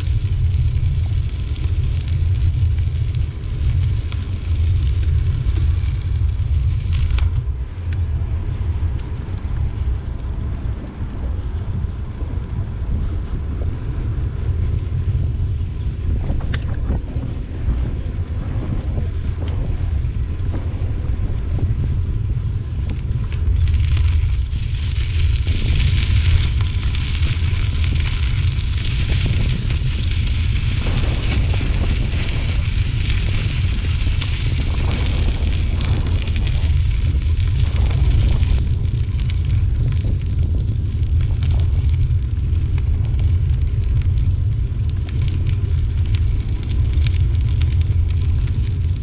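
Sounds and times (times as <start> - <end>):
bicycle tyres rolling on asphalt: 0.0 - 49.0
bike clicking: 0.0 - 49.0
wind buffeting microphone: 0.0 - 49.0.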